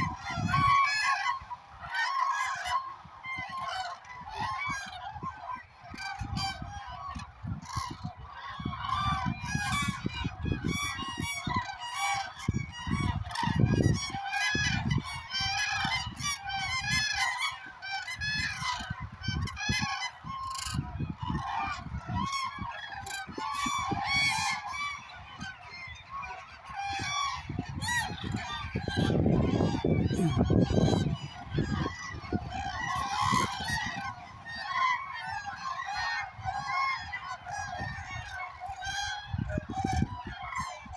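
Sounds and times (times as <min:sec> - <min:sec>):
cranes trumpeting calls: 0:00.0 - 0:40.9.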